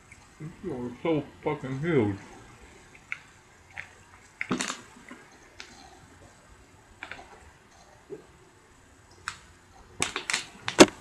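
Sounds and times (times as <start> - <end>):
eating and mouth noises: 1.9 - 10.8.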